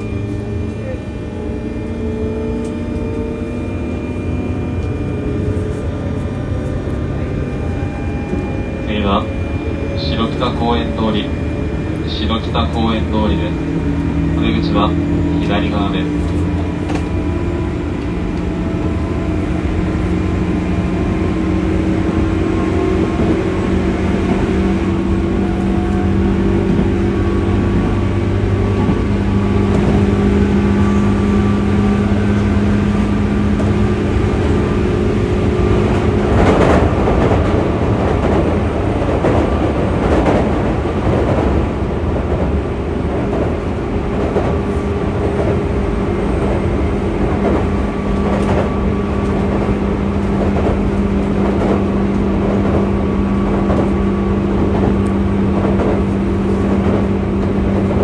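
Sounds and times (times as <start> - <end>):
train rail rumble: 0.0 - 58.0.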